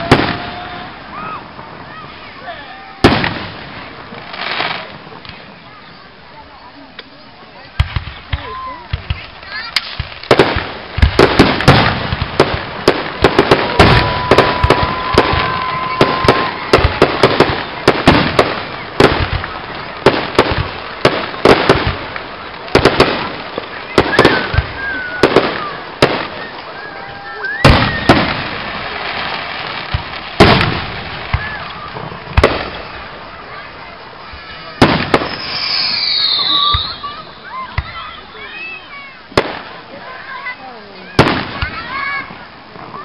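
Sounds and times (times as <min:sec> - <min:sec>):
fireworks booms: 0:00.0 - 0:05.6, 0:07.7 - 0:43.0
fireworks bangs and crackles: 0:00.0 - 0:43.0.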